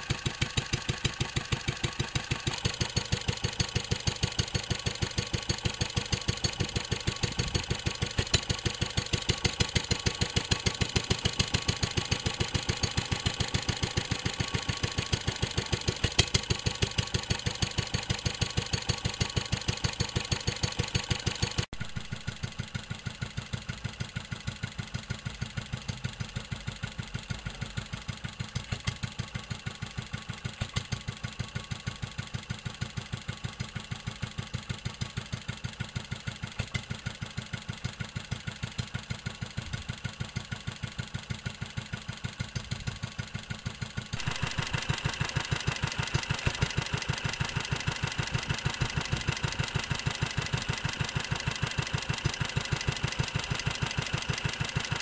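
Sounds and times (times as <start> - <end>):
stationary petrol engine running: 0.0 - 55.0.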